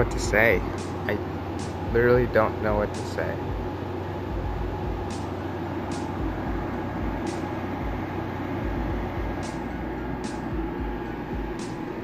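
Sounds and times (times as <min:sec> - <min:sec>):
air conditioner hum and whoosh: 0:00.0 - 0:12.0.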